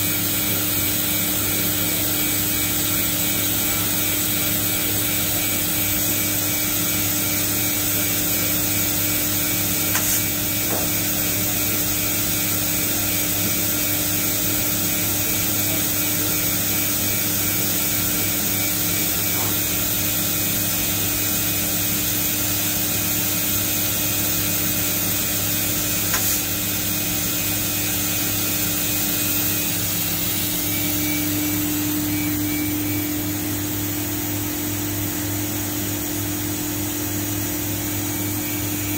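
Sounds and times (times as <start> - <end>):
machining center humming: 0.0 - 38.9.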